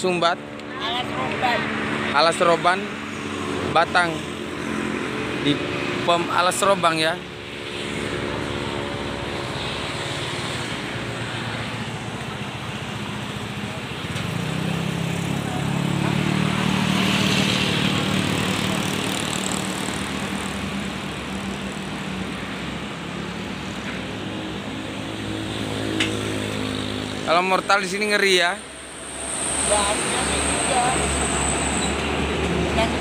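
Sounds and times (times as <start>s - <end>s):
road and wind noise: 0.0s - 33.0s.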